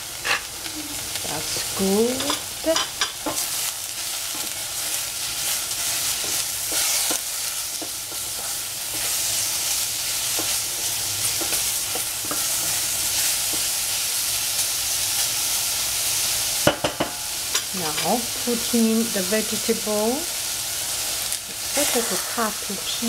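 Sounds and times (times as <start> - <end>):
mushrooms sizzling in oil: 0.0 - 23.0.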